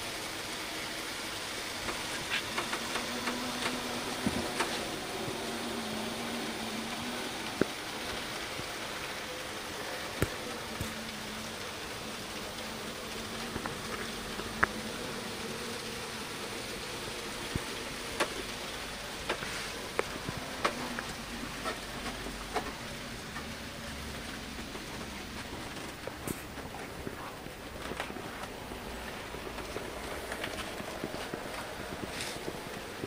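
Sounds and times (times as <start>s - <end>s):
model train motor humming: 0.0s - 33.0s.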